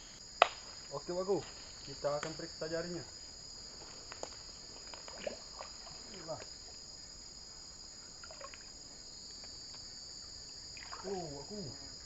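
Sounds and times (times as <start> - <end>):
night insects droning: 0.0 - 12.0.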